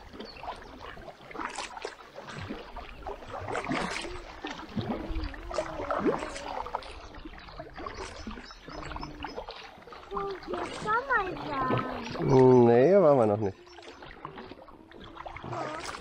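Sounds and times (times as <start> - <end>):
kayak paddles dipping into water: 0.0 - 16.0
water splashes and drips: 0.0 - 16.0.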